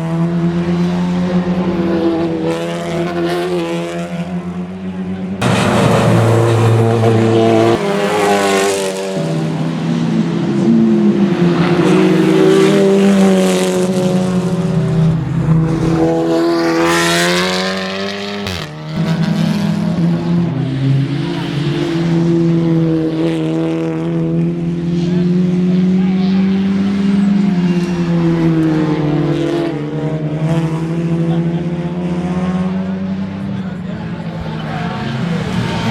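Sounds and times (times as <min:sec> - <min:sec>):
engine accelerating: 0:00.0 - 0:29.8
race car engines: 0:00.0 - 0:35.9.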